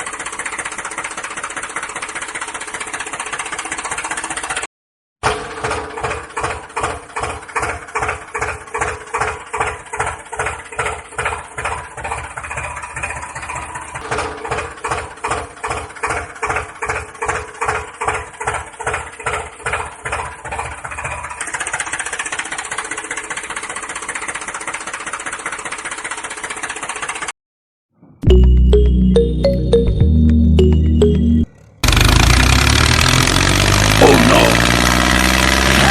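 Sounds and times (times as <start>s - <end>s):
tractor engine chugging: 0.0s - 4.7s, 5.3s - 27.3s, 28.0s - 35.7s.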